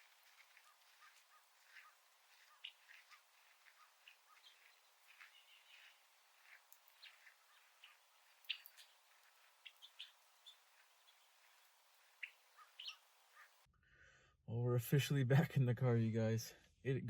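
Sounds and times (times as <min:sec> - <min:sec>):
faint small bird chirps: 0:00.0 - 0:13.7.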